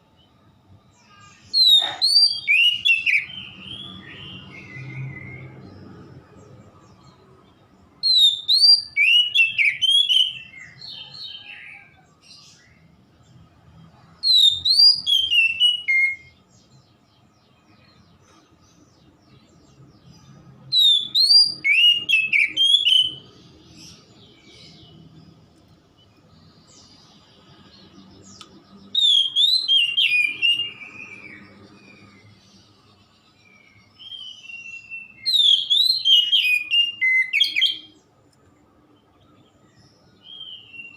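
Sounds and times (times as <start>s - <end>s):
bird singing whistled notes: 0.9s - 7.3s, 7.9s - 12.9s, 14.2s - 18.1s, 18.9s - 38.0s, 39.0s - 40.9s.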